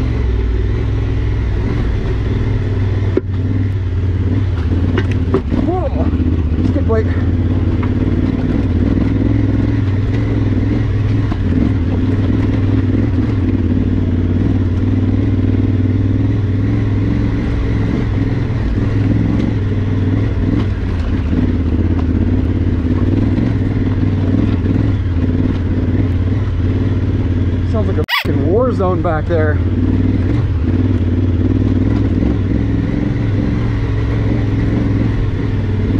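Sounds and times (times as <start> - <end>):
motorcycle engine at low revs: 0.0 - 35.9.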